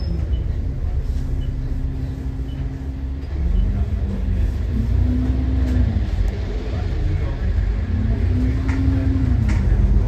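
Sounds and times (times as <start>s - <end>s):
bus diesel engine accelerating: 0.0s - 10.0s.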